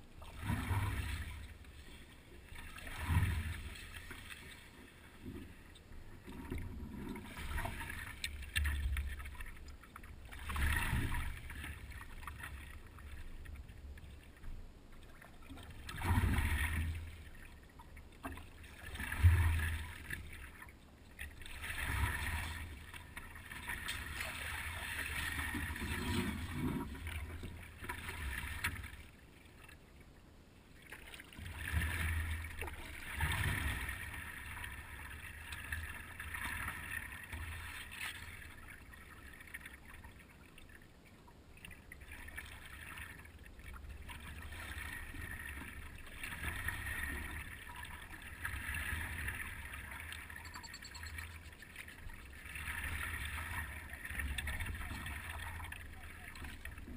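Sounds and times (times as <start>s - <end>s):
paddle strokes in water: 0.0s - 30.0s, 30.8s - 56.9s.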